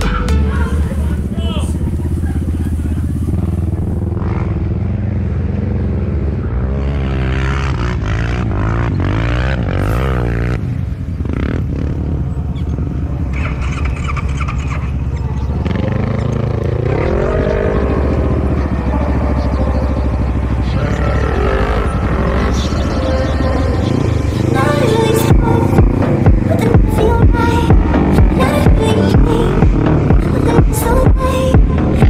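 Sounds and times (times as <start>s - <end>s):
quad bike engine revving: 0.0s - 32.0s.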